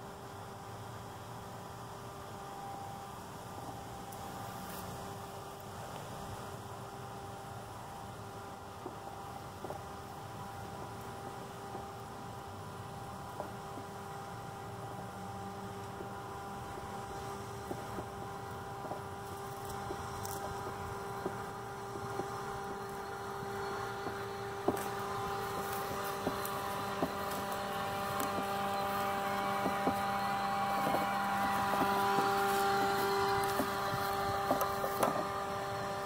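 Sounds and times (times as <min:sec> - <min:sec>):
robotic lawn mower whine: 0:02.1 - 0:36.0.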